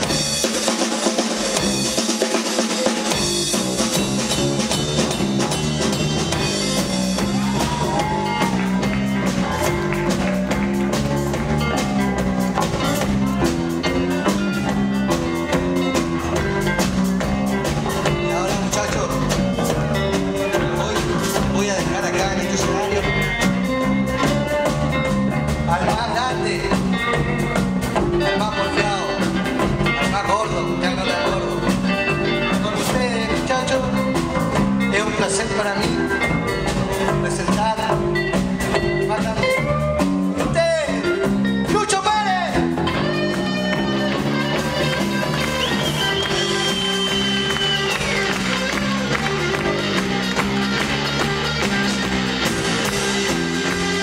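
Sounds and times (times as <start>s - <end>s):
electric bass guitar: 0.0s - 2.1s, 3.0s - 54.0s
drum kit: 0.0s - 54.0s.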